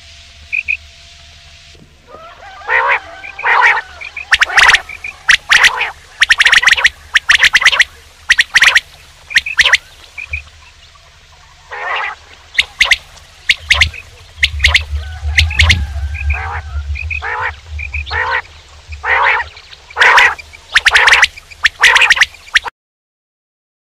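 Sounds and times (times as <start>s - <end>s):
quail calling: 2.1s - 22.7s
low rumble: 3.2s - 22.4s.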